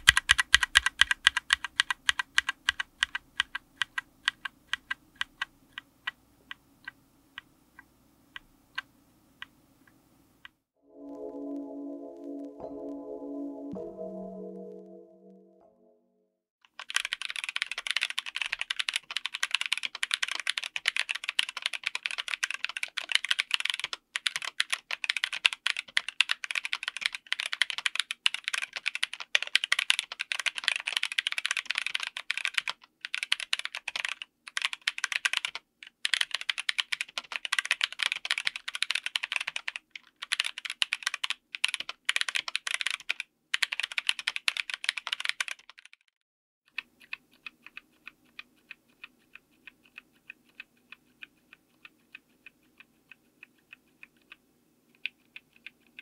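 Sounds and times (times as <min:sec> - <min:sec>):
typing on mechanical keyboard: 0:00.0 - 0:06.2, 0:16.7 - 0:46.1, 0:46.7 - 0:56.0.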